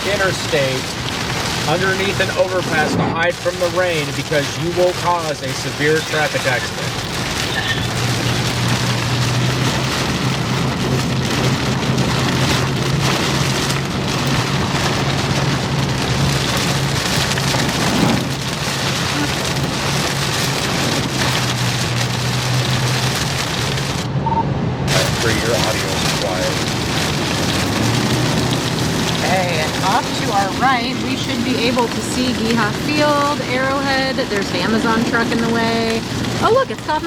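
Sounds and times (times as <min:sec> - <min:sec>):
heavy rain on vehicle roof: 0:00.0 - 0:37.0.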